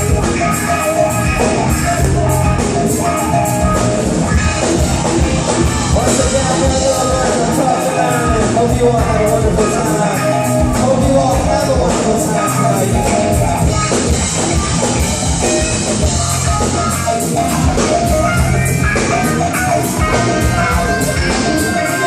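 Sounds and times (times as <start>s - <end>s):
live rock band playing: 0.0s - 22.0s
steady drum beat: 0.0s - 22.0s.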